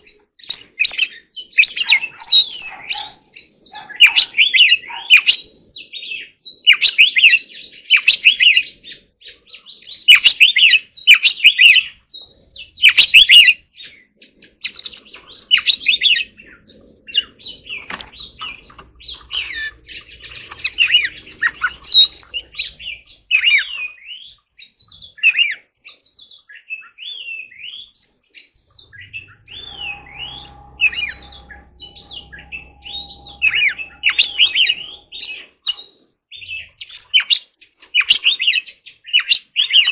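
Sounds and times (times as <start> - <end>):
bird singing whistled phrases: 0.4 - 39.9.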